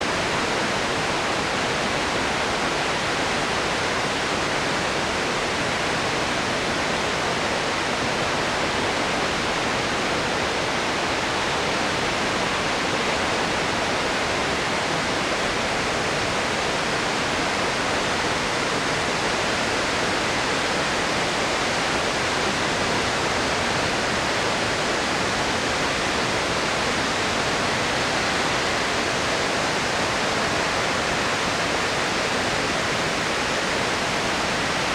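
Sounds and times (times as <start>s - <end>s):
water rushing from dam: 0.0s - 34.9s.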